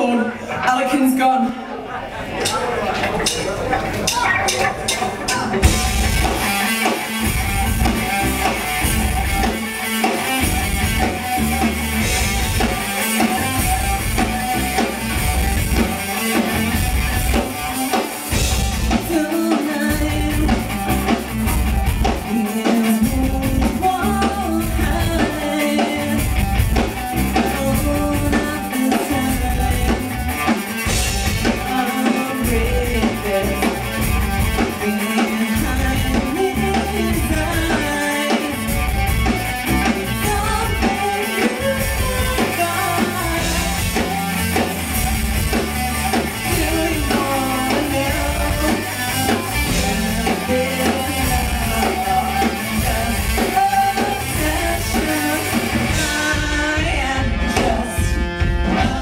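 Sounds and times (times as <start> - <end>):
electric guitars: 0.0 - 59.0
drum kit pounding: 2.4 - 59.0.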